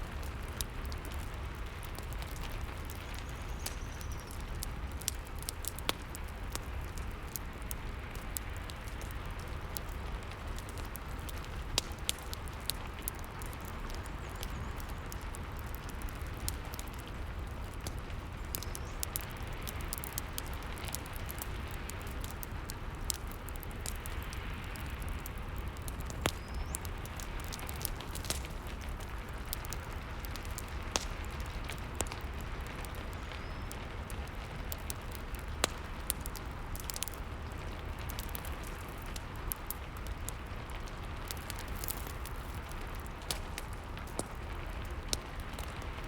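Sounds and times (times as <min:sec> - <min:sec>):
steady rain: 0:00.0 - 0:46.0
wood fire crackling: 0:00.0 - 0:46.0.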